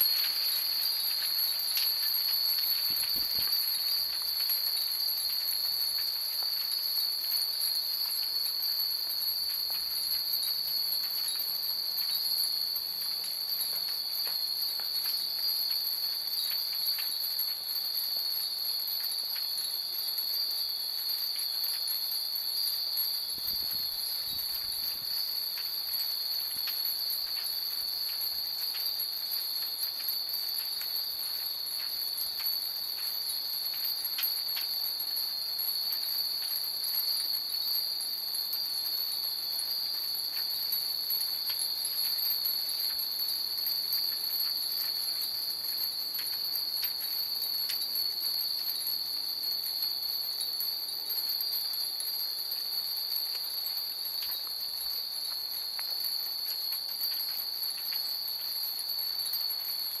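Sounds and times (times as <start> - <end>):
high insect trill: 0.0 - 60.0
wind chimes tinkling: 0.0 - 60.0.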